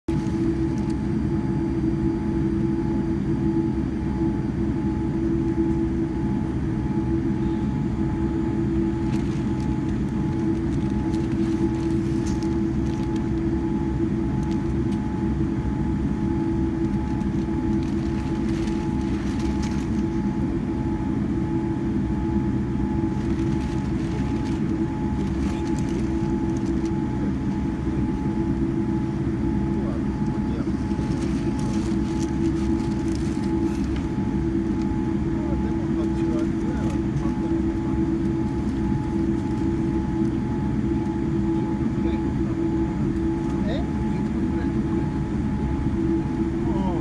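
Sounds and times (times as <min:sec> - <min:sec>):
airliner taxiing rumble: 0:00.1 - 0:47.0
high steady whine: 0:00.1 - 0:47.0.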